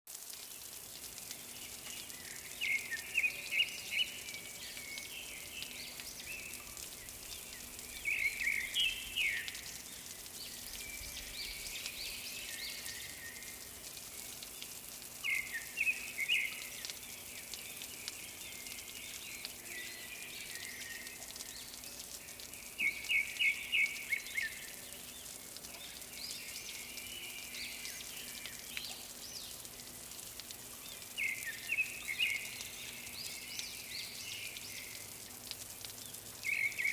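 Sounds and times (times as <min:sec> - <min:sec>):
steady background hiss: 0:00.1 - 0:36.9.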